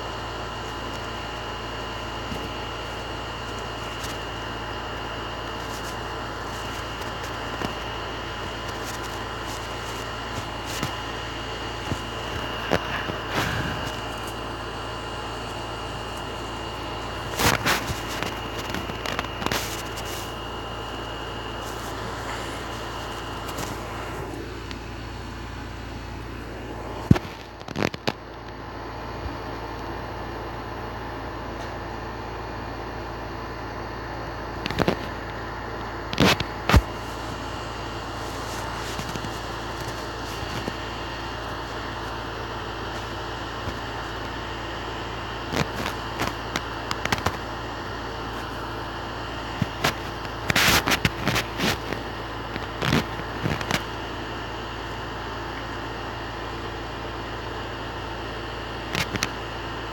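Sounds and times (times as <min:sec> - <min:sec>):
background hum and hiss: 0:00.0 - 0:59.9
high whine: 0:00.0 - 0:59.9.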